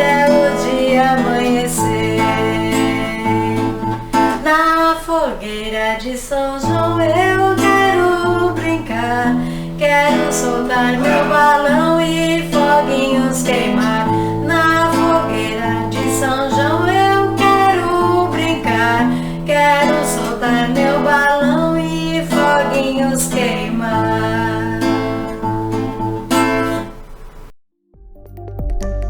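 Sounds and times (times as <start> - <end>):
strummed acoustic guitar: 0.0 - 5.8, 6.4 - 27.5
woman singing: 0.0 - 26.0.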